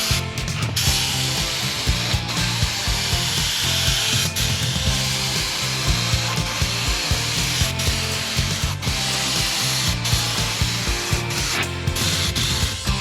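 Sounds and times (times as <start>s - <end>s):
music with beat and bass line: 0.0s - 13.0s.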